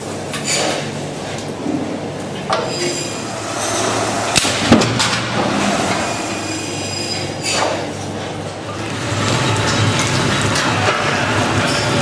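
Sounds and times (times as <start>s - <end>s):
steady mechanical noise: 0.0s - 12.0s.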